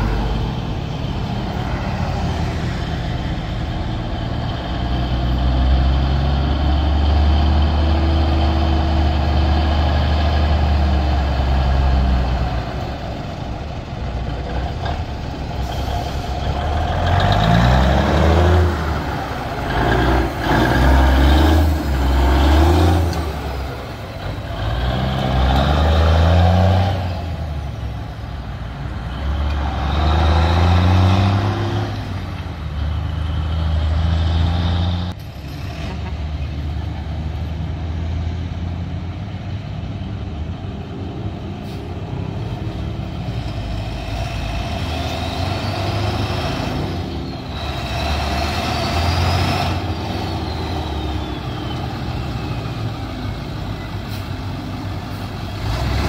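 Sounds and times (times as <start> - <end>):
diesel truck accelerating: 0.0 - 56.0.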